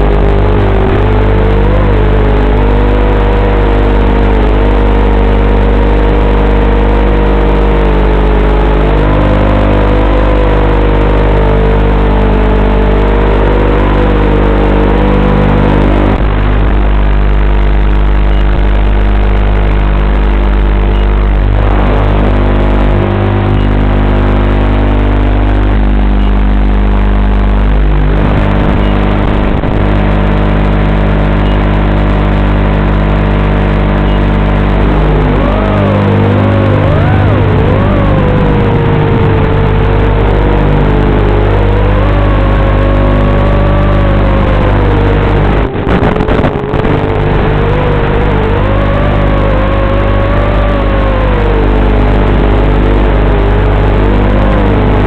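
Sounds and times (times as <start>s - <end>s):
quadcopter electrical buzz: 0.0s - 55.0s
wavering motor whine: 0.0s - 55.0s.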